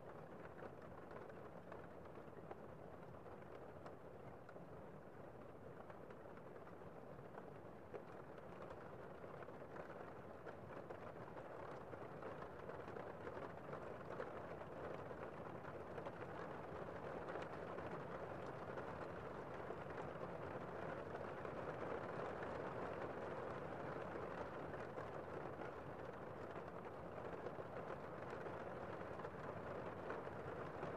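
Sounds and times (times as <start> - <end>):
muffled heavy rain: 0.0 - 30.9.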